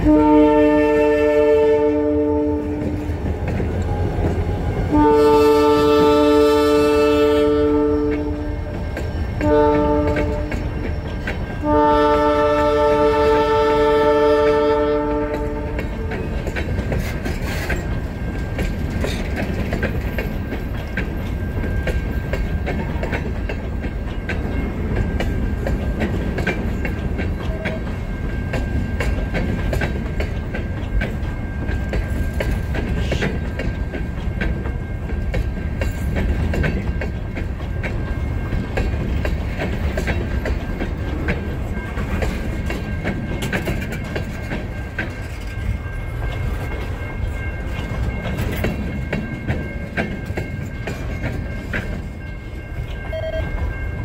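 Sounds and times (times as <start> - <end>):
wheels clicking over rail joints: 0.0 - 54.0.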